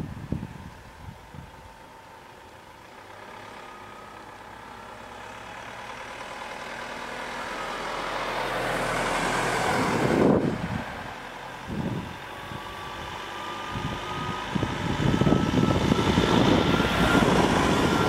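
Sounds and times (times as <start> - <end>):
vehicle driving past: 2.3 - 18.0.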